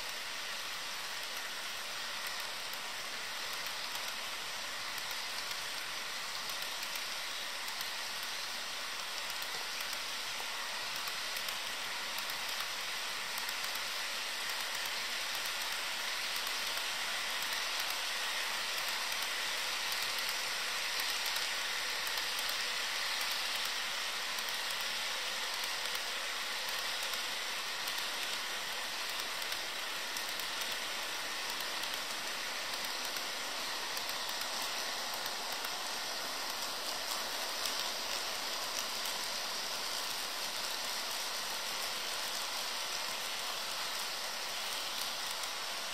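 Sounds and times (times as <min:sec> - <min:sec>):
model train wheels clattering: 0:00.0 - 0:45.9.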